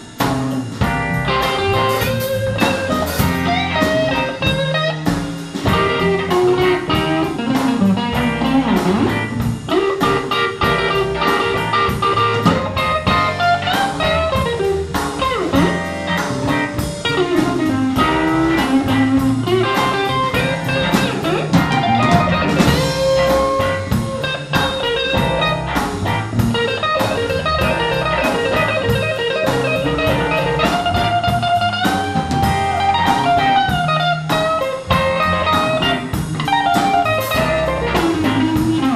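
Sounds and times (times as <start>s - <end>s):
bass guitar: 0.0s - 38.9s
drum kit: 0.0s - 38.9s
electric guitars: 0.0s - 38.9s
lead guitar bent sliding notes: 0.0s - 38.9s.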